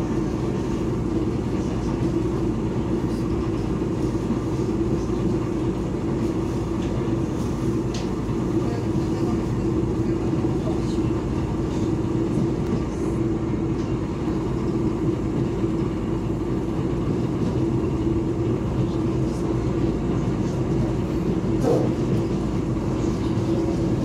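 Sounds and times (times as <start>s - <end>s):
constant hum: 0.0s - 24.0s
train wheels rumbling on rails: 0.0s - 24.0s.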